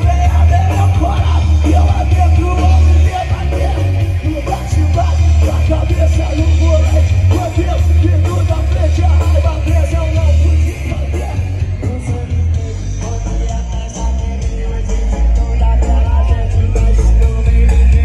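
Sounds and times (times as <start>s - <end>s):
live band with heavy bass: 0.0s - 18.0s
person singing: 0.0s - 18.0s.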